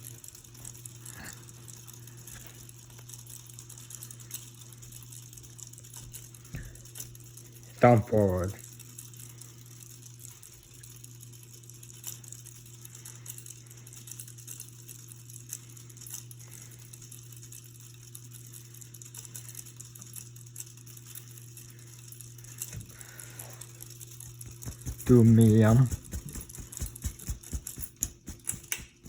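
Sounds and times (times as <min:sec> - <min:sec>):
ceiling fan motor humming: 0:00.0 - 0:29.0
light ticks and rattles: 0:00.0 - 0:29.0.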